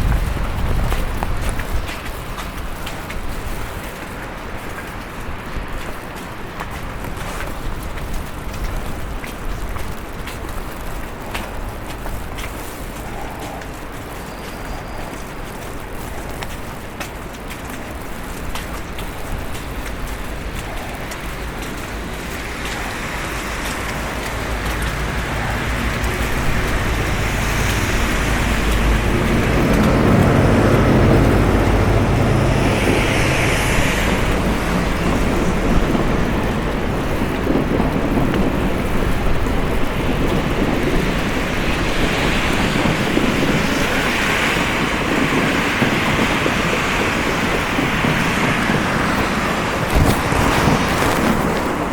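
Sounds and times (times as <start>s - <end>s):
vehicles driving past on wet road: 0.0s - 51.9s.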